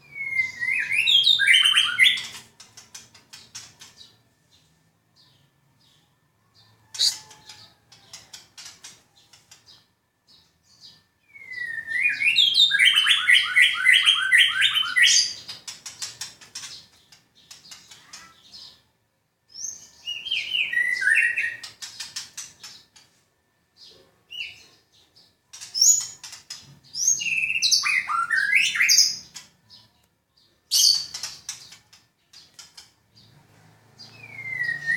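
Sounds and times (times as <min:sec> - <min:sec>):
songbird singing rattling notes: 0:00.0 - 0:18.9, 0:19.5 - 0:23.2, 0:23.8 - 0:34.9.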